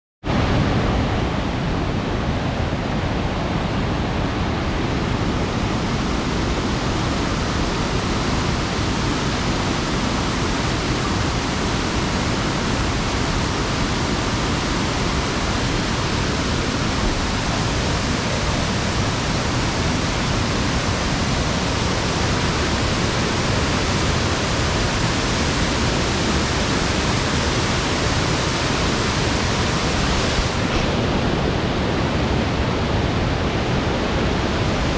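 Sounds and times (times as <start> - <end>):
waterfall rushing: 0.3 - 34.9.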